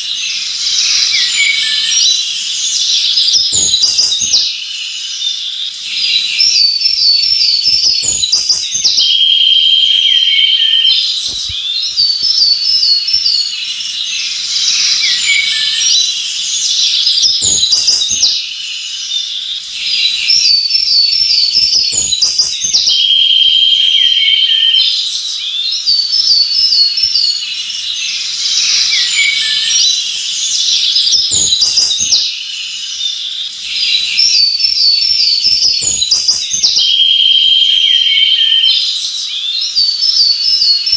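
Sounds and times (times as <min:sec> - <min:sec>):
bird trill: 0:00.0 - 0:40.9
birds chirping and singing: 0:00.0 - 0:40.9
whistled bird phrase: 0:00.0 - 0:40.9.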